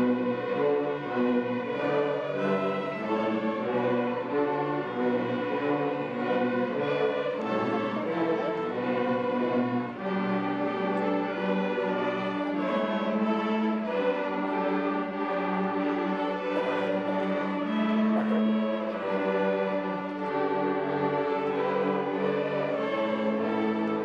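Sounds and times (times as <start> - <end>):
string orchestra playing: 0.0 - 24.0.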